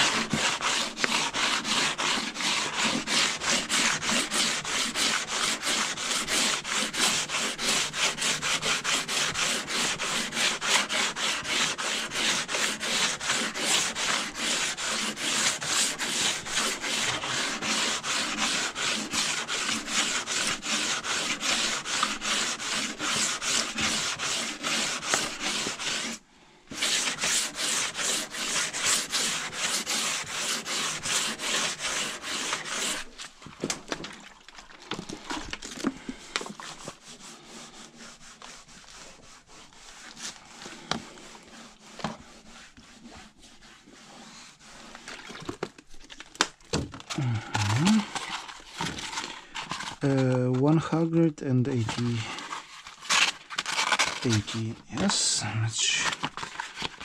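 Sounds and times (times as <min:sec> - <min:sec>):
sandpaper rasping on metal: 0:00.0 - 0:33.2, 0:36.6 - 0:45.0, 0:47.3 - 0:56.8.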